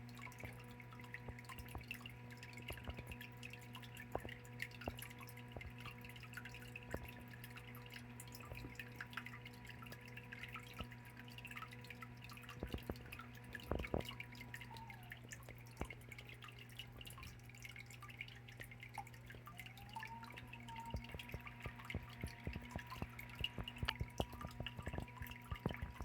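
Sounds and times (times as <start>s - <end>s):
steady low hum: 0.0s - 26.0s
water trickling and dripping: 0.0s - 26.0s.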